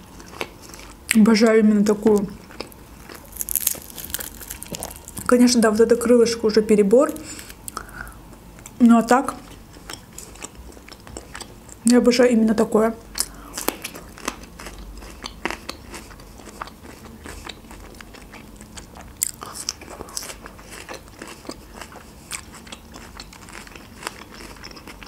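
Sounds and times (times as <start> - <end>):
person chewing crunchy pepper: 0.0 - 1.1, 2.0 - 5.4, 7.0 - 8.8, 9.4 - 11.8, 13.1 - 25.0.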